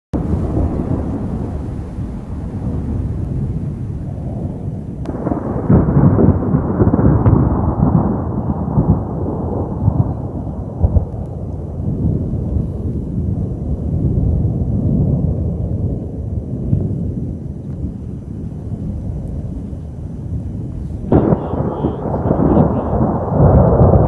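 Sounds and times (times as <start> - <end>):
thunder crack and rumble: 0.2 - 24.0.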